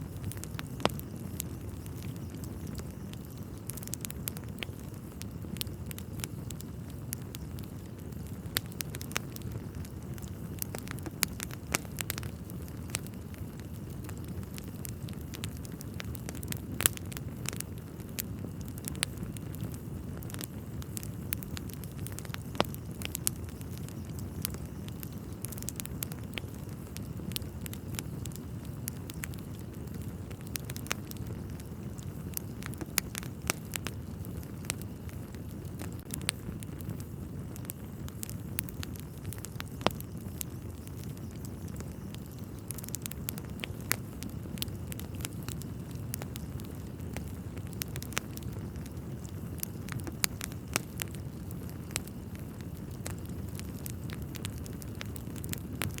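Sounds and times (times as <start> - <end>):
fire crackling and popping: 0.0 - 56.0
low rumble of burning logs: 0.0 - 56.0.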